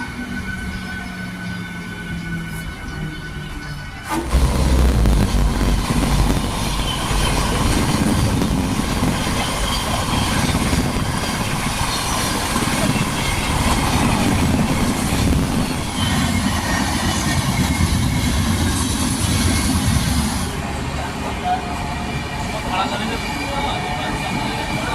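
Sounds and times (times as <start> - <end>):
train wheels rumbling on rails: 0.0 - 24.9.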